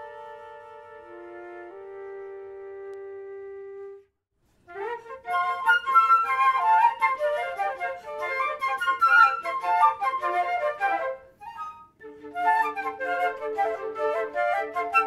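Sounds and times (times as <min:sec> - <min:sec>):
flute quartet playing: 0:00.0 - 0:04.0, 0:04.7 - 0:15.0.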